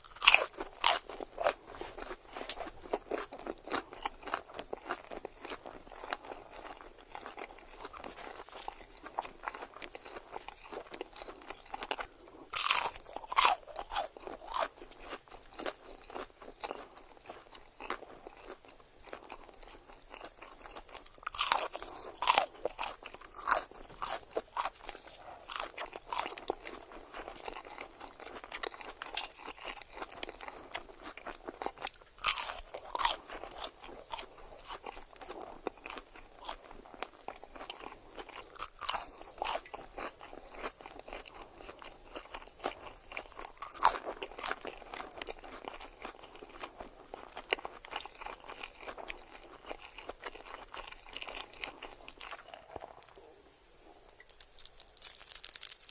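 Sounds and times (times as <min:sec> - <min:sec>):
crisp crunching bites: 0:00.0 - 0:55.9
wet chewing: 0:00.0 - 0:55.9.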